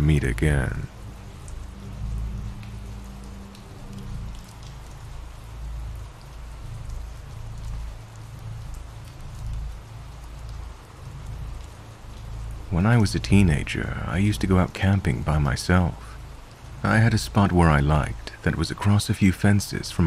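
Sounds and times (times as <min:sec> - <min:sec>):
raindrop ticks: 0:00.0 - 0:20.0
steady rain hiss: 0:00.0 - 0:20.0.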